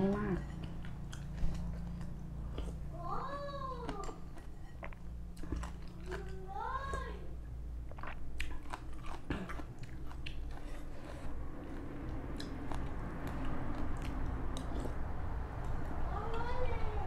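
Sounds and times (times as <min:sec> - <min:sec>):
wet chewing: 0:00.0 - 0:02.9, 0:03.7 - 0:07.1, 0:07.8 - 0:16.5.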